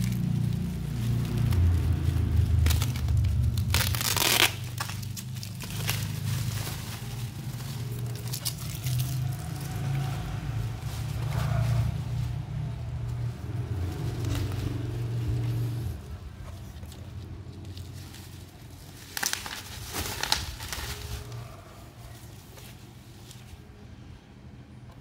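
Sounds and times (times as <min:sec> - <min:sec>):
plastic mailer crinkling: 0:00.0 - 0:10.3, 0:12.7 - 0:23.5.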